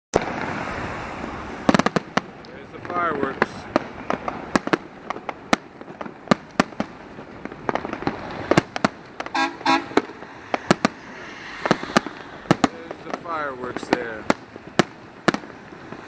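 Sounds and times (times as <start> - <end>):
fireworks bangs echoing: 0.1 - 16.0.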